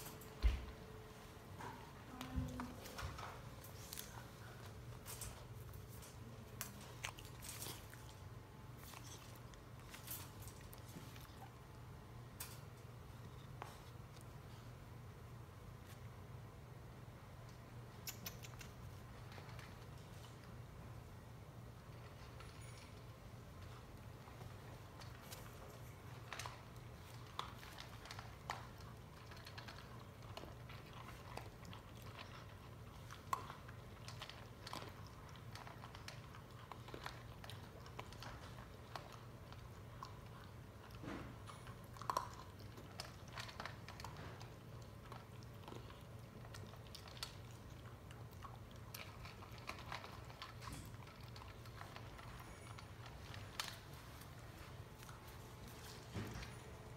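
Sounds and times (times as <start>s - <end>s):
puppies crunching dry kibble: 1.4s - 14.8s, 18.4s - 56.9s.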